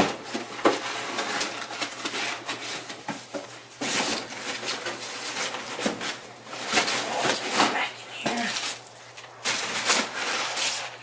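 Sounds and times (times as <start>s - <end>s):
packing paper rustling: 0.0s - 11.0s.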